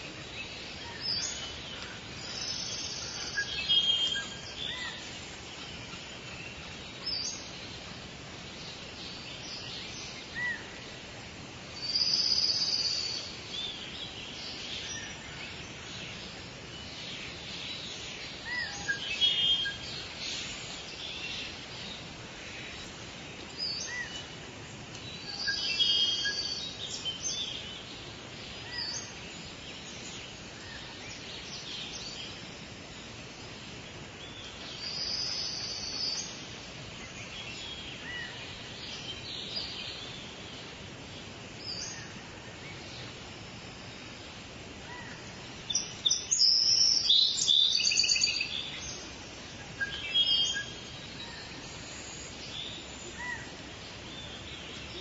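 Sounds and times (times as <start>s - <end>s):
background hiss: 0.0s - 55.0s
birds singing: 0.0s - 55.0s.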